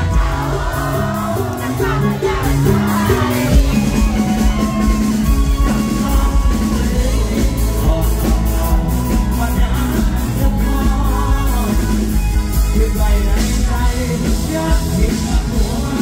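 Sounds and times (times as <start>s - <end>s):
heavy drum beat and bass: 0.0s - 16.0s
person singing: 0.0s - 16.0s.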